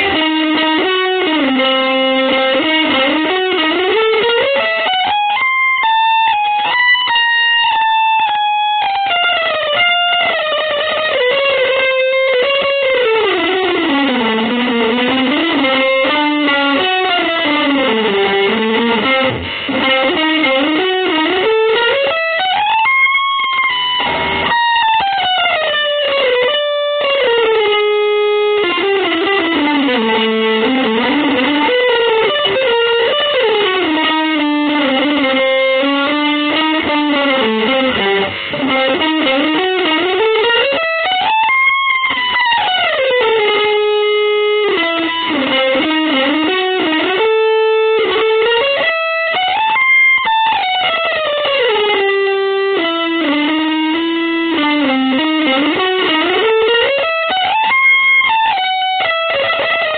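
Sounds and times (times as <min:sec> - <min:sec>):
electric guitar melody: 0:00.0 - 0:59.9.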